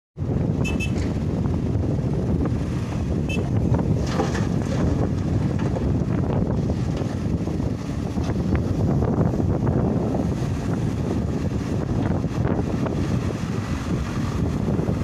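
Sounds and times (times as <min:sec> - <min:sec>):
heavy machinery rumbling: 0:00.2 - 0:15.0
wind buffeting microphone: 0:00.2 - 0:15.0.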